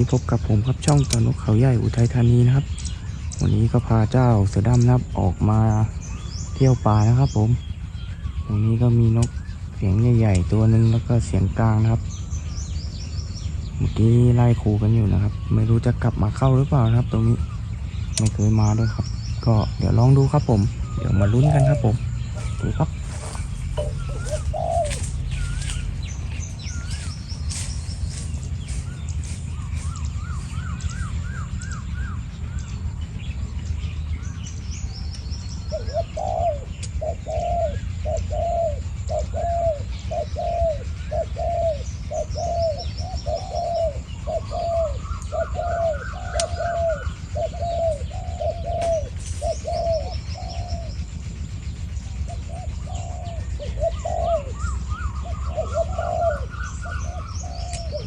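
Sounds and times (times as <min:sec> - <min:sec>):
doves cooing: 0:00.0 - 0:58.0
low rumble: 0:00.0 - 0:58.0
small birds chirping: 0:00.0 - 0:58.0.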